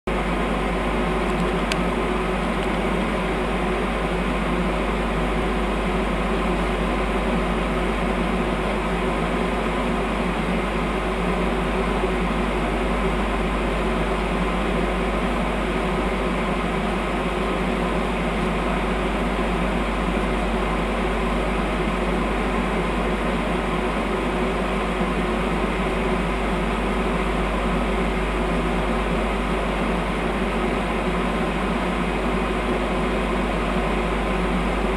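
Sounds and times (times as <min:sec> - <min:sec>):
electric train equipment humming: 0:00.1 - 0:34.9.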